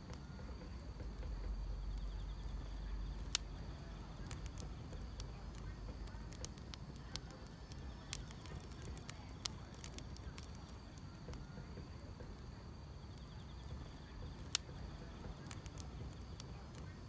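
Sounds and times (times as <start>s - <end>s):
insects chirping: 0.0s - 17.0s
wood fire crackling: 0.0s - 17.0s.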